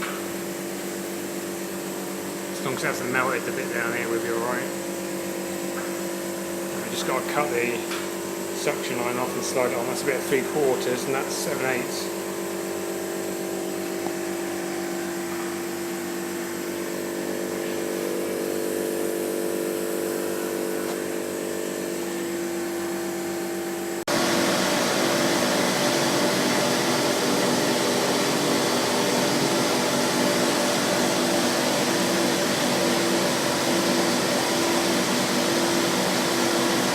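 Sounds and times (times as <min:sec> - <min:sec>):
machine humming: 0:01.3 - 0:36.9.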